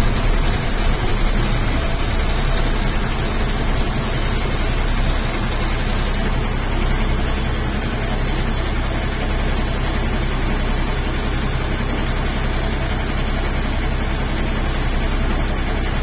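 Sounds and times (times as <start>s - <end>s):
road noise: 0.0s - 14.9s
bus engine drone: 0.0s - 16.0s.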